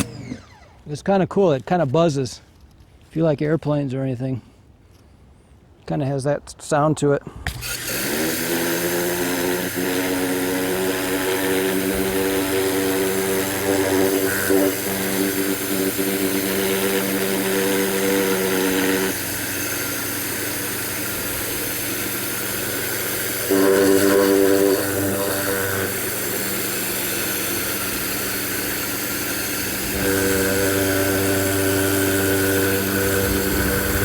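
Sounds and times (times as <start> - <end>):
pressure washer motor buzzing: 0.0 - 0.9, 7.5 - 34.0.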